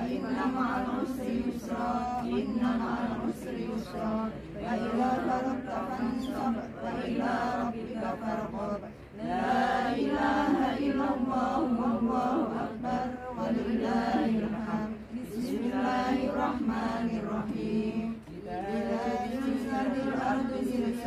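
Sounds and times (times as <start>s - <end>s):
women reciting prayers in unison: 0.0s - 21.0s.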